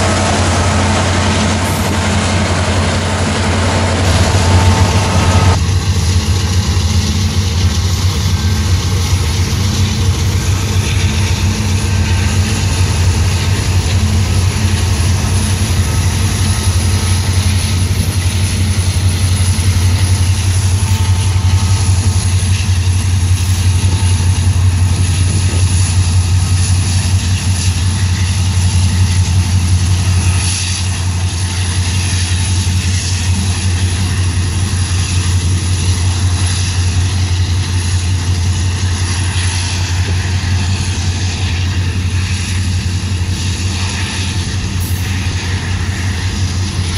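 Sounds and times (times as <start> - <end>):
diesel locomotive engines droning: 0.0 - 46.9.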